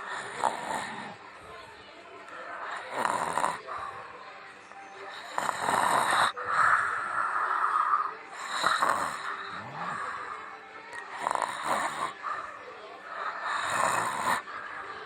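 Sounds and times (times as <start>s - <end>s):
rasping snores and snorts: 0.0s - 1.2s, 2.6s - 3.9s, 5.1s - 14.8s.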